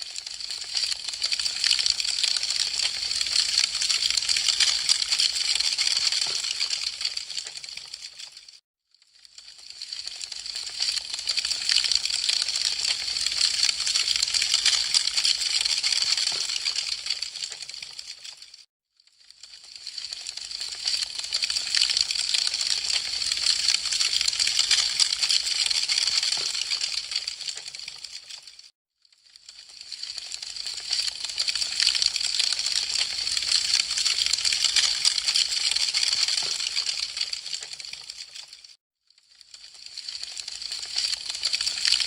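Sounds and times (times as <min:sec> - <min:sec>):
wood fire crackling: 0:00.0 - 0:08.4, 0:09.3 - 0:18.4, 0:19.4 - 0:28.6, 0:29.5 - 0:38.5, 0:39.7 - 0:42.0.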